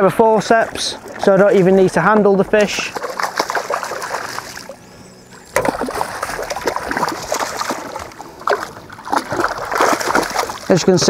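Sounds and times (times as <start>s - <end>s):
fish thrashing and splashing water: 0.4s - 11.0s.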